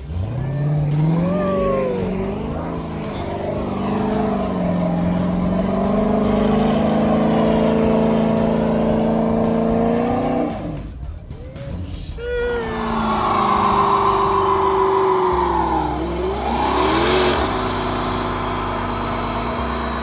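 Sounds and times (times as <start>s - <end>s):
car engine revving hard: 0.0s - 11.0s, 11.8s - 20.0s
spinning tyres hissing: 0.0s - 20.0s.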